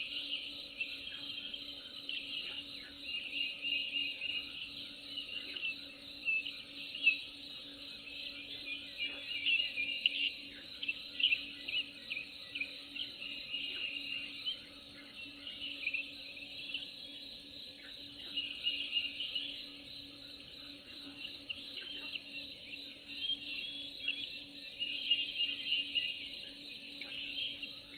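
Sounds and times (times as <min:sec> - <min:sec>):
faint low hum: 0:00.0 - 0:27.9
high-pitched wildlife chirping: 0:00.0 - 0:27.9.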